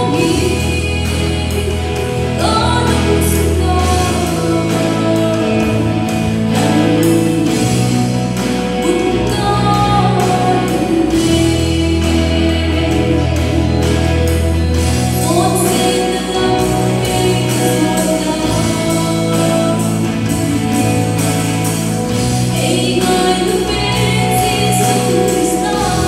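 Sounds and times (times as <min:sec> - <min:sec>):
live band playing: 0:00.0 - 0:26.0
woman singing: 0:00.0 - 0:26.0.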